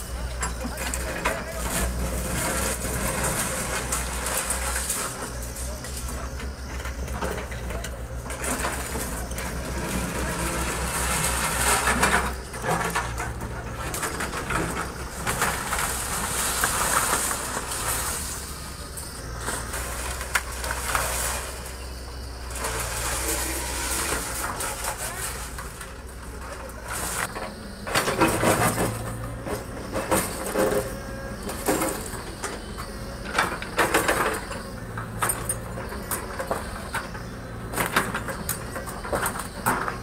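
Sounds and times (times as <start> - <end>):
excavator diesel engine running: 0.0 - 40.0
timber and steel bars scraping and crashing: 0.0 - 40.0.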